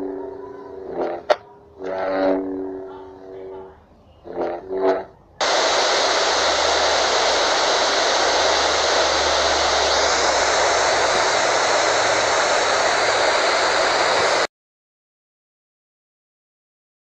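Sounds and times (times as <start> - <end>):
tv static hiss: 0.0 - 14.5.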